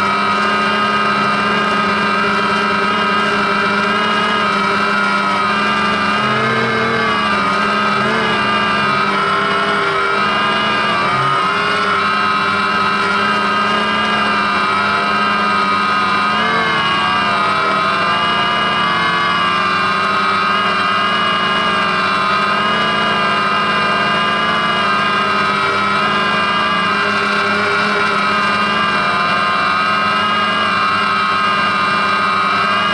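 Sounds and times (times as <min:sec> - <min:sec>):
drone propellers whining: 0:00.0 - 0:32.9.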